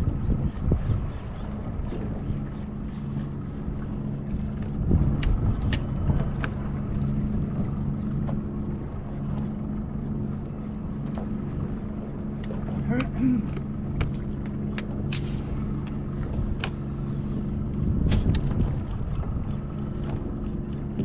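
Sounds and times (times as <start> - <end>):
wind noise on microphone: 0.0 - 12.9, 13.6 - 21.0
boat motor humming: 0.0 - 21.0.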